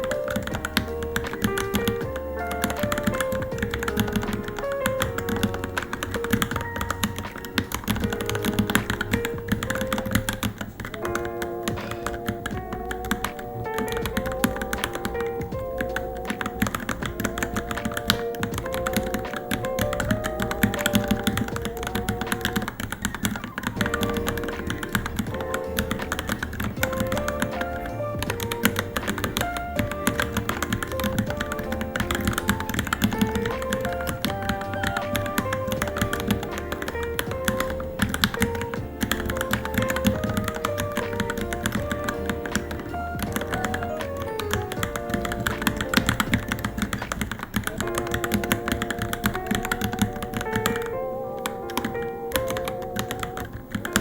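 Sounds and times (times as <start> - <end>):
background music with melody: 0.0 - 54.0
fast keyboard typing: 0.0 - 54.0.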